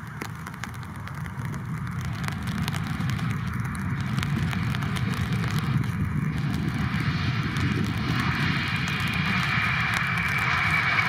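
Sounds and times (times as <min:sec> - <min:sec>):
high engine whine: 0:00.0 - 0:11.0
jet engines rumbling: 0:00.0 - 0:11.0
tyres rushing on wet runway: 0:00.0 - 0:11.0.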